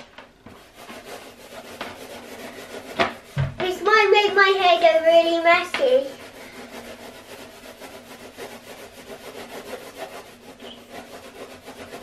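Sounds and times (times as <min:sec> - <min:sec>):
balloon and ball rubbed on hair: 0:00.0 - 0:12.0.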